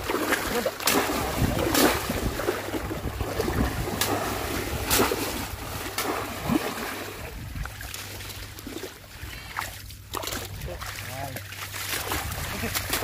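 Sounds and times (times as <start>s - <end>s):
water splashing from wading: 0.0s - 13.0s.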